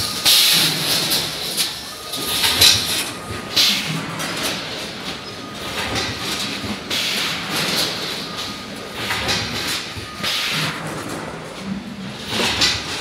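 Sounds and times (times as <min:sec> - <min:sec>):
conveyor machine rattling clatter: 0:00.0 - 0:13.0.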